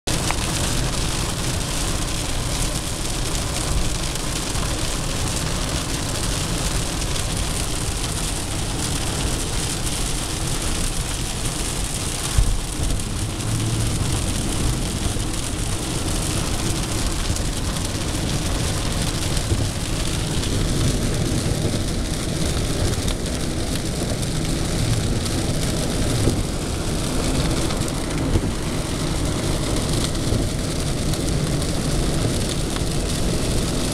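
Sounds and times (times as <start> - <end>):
rain hitting car roof: 0.0 - 33.9
tyre noise on wet road: 0.0 - 33.9.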